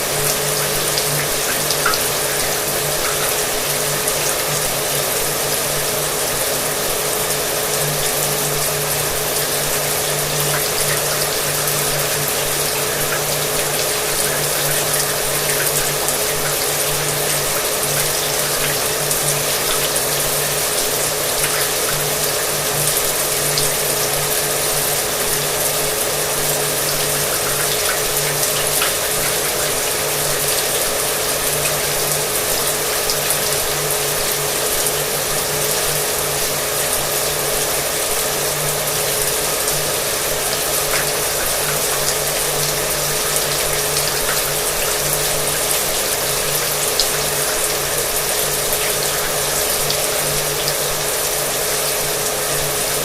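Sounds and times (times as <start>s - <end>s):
shower water running: 0.0s - 53.0s.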